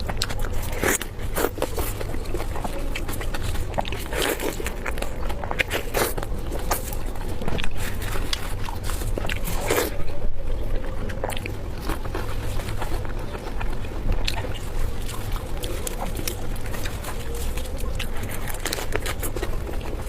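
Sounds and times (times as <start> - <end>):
chewing and mouth clicks: 0.0 - 20.0.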